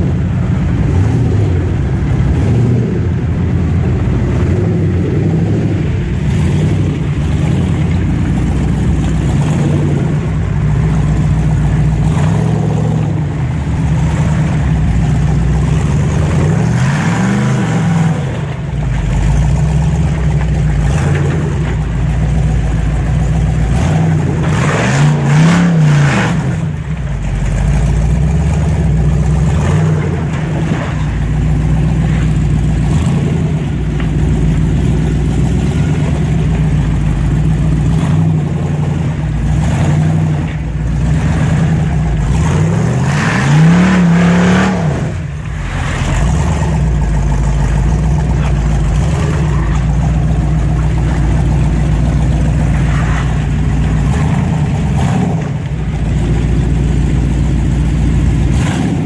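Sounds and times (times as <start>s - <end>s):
engine revving under load: 0.0s - 59.0s.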